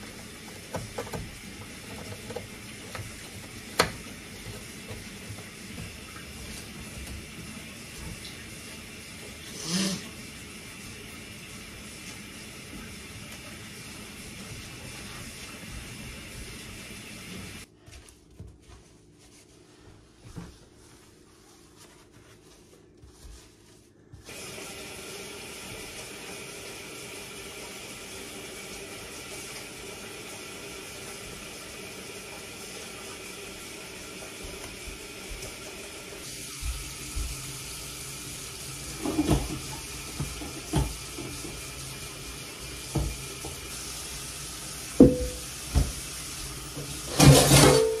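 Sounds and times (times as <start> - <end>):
water running from sink tap: 0.0 - 17.7, 24.2 - 48.0.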